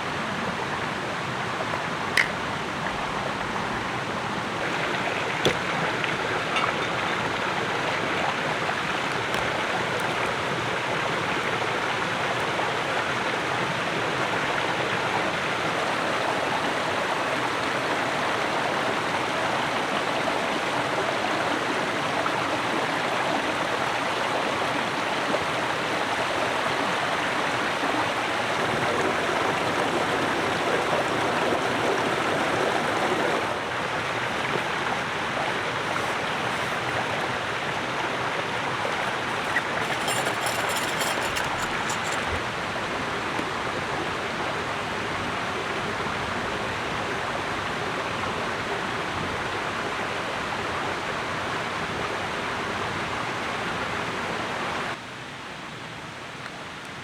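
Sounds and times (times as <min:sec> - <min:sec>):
flowing water rushing: 0:00.0 - 0:52.0.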